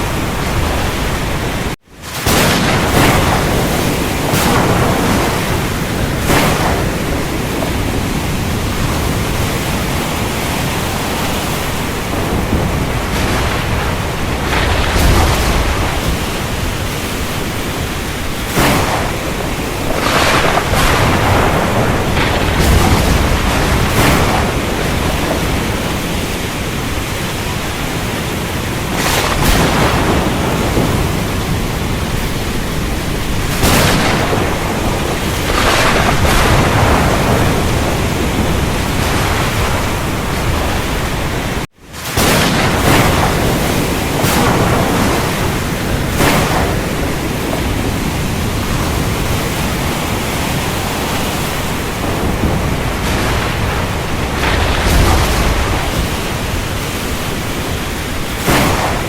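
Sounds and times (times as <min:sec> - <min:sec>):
heavy rain: 0:00.0 - 0:59.0
thunder cracks: 0:00.0 - 0:59.0.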